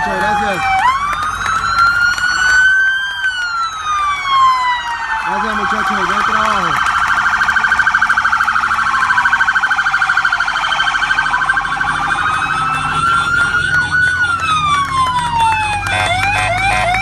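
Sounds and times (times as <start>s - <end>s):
siren chirping: 0.0s - 17.0s
siren wailing: 0.0s - 17.0s
siren yelping: 0.0s - 17.0s.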